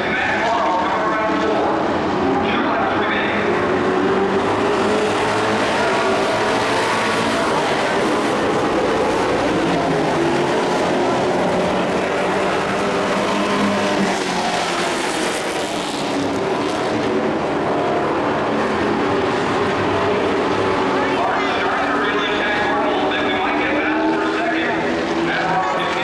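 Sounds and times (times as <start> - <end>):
race truck engines running hard: 0.0 - 26.0.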